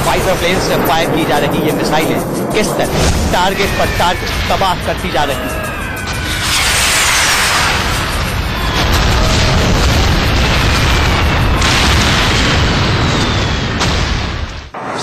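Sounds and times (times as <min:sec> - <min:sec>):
large explosions rumbling: 0:00.0 - 0:14.8.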